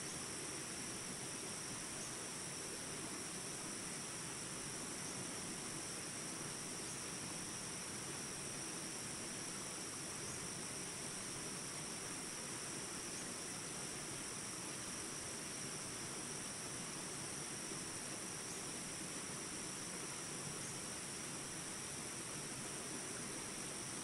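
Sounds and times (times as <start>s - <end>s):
shrill insect chorus: 0.0s - 24.0s.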